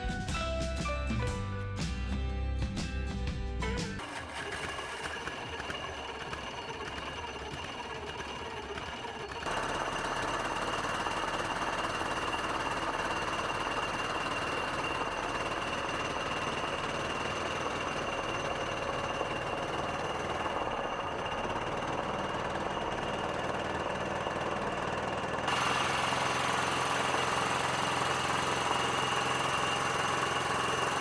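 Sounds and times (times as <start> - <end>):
boat engine running: 4.0 - 31.0.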